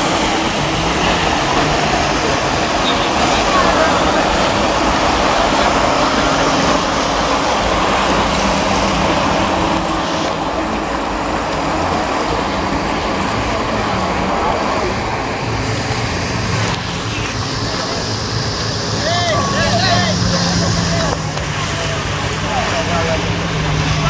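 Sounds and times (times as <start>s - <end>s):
crowd murmur: 0.0s - 24.0s
steady engine noise: 0.0s - 24.0s.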